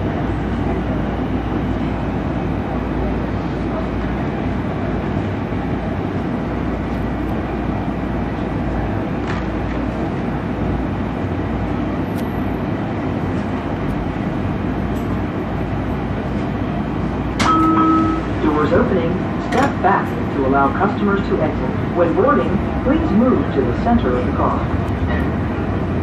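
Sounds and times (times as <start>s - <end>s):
train wheels rumbling in tunnel: 0.0s - 26.0s.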